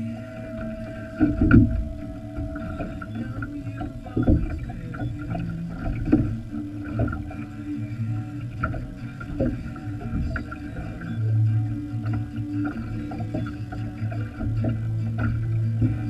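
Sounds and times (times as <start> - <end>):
steady low rumble: 0.0 - 16.0
water slapping against hull: 0.0 - 16.0.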